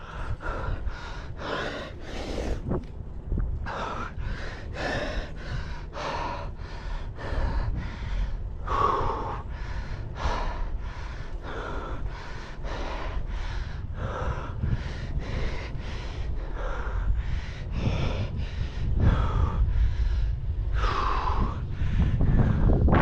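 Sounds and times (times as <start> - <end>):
person breathing hard: 0.0 - 2.9, 3.6 - 23.0
steady low rumble: 0.0 - 23.0.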